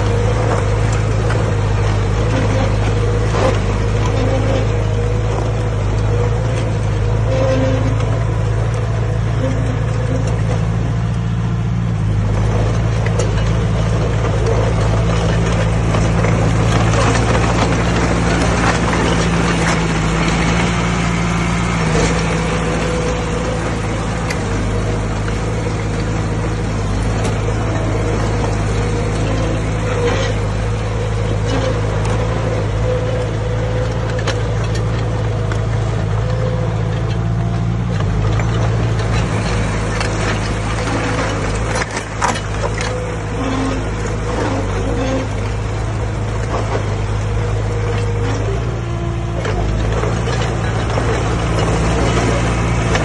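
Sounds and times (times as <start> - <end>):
earthmoving machine diesel engine: 0.0 - 53.0.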